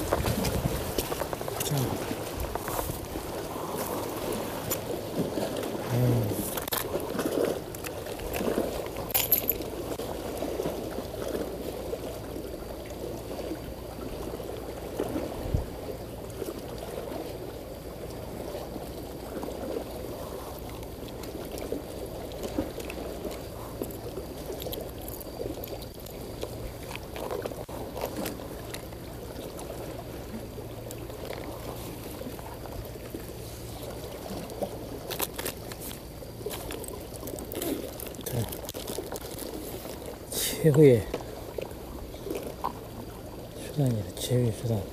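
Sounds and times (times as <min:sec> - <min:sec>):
water sloshing and lapping: 0:00.0 - 0:44.9.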